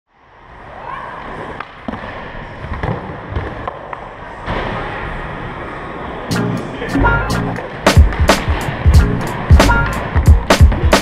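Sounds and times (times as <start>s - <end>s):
skateboard wheels rolling on concrete: 0.1s - 11.0s.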